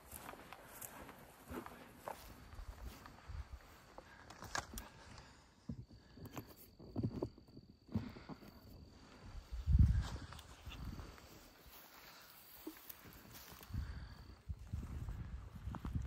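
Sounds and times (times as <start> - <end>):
high insect tone: 0.0 - 16.0.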